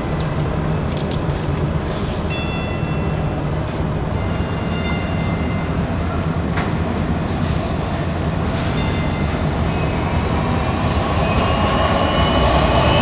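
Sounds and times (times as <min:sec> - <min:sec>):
light rail train approaching: 0:00.0 - 0:13.0.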